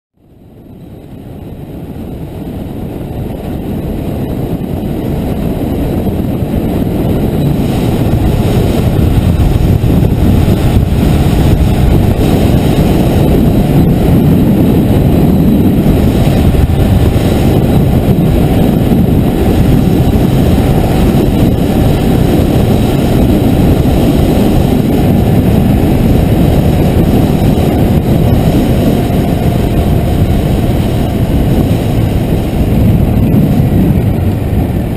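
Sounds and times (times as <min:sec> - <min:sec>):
motorcycle engine running: 0:00.2 - 0:34.9
air rushing past: 0:01.1 - 0:34.9.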